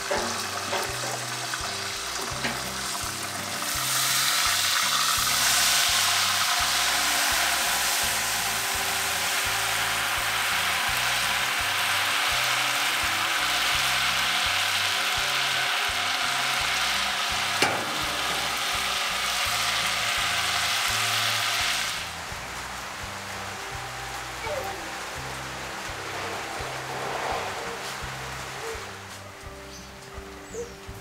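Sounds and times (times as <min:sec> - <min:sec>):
duck sizzling on a grill: 0:00.0 - 0:31.0
soft background music: 0:00.0 - 0:31.0.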